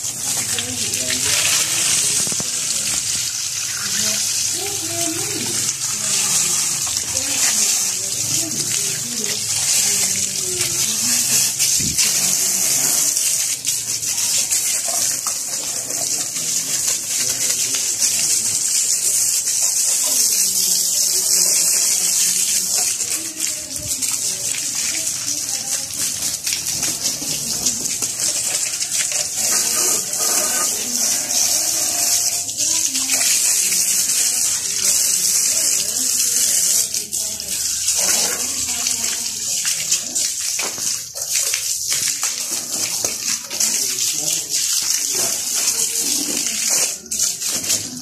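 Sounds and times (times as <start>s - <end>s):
water from hose splashing on metal: 0.0s - 48.0s.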